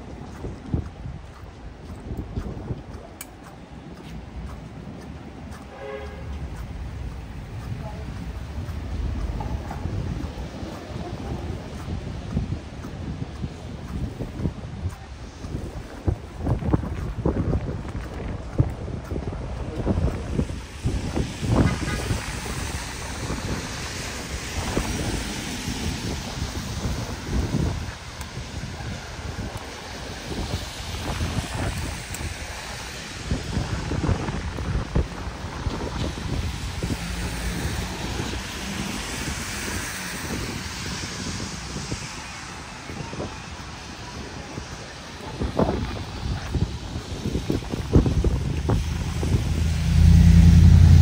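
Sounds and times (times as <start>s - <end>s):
traffic on wet streets: 0.0s - 51.0s
wind buffeting microphone: 0.0s - 51.0s.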